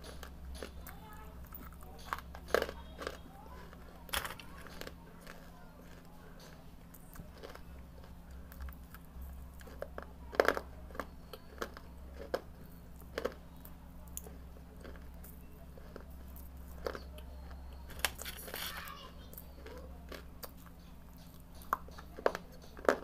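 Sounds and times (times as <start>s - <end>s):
person chewing crunchy clay: 0.0s - 23.0s.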